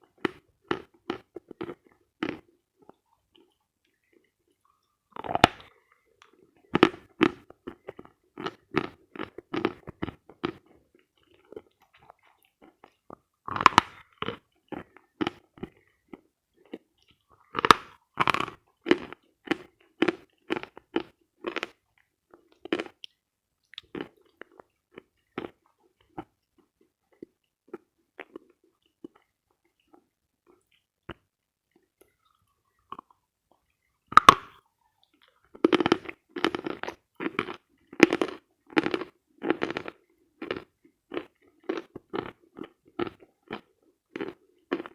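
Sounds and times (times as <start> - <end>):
chalk bitten and chewed: 0.0 - 44.9.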